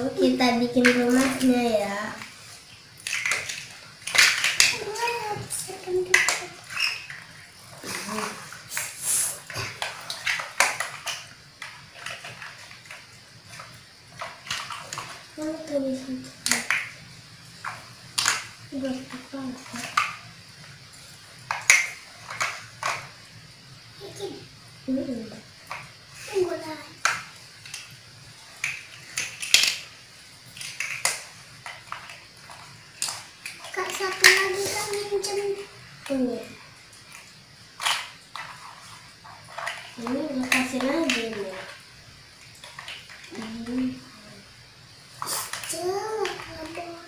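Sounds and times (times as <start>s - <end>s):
plastic toy blocks clicking: 0.2s - 23.4s, 25.1s - 44.0s, 45.1s - 47.0s
blocks tapping on tiled floor: 0.6s - 23.5s, 25.2s - 47.0s.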